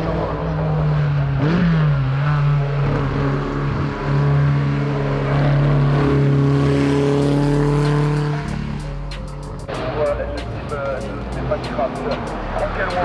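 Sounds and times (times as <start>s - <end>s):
rally car engine revving high: 0.0s - 13.0s.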